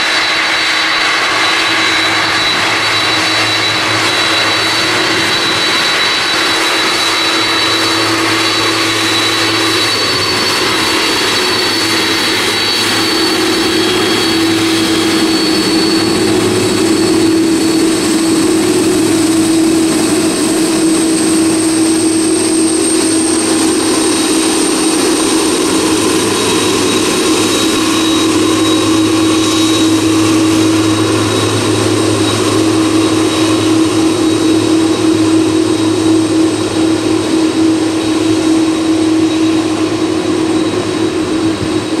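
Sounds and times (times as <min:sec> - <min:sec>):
high whining tones: 0:00.0 - 0:42.0
jet engines at taxi power: 0:00.0 - 0:42.0.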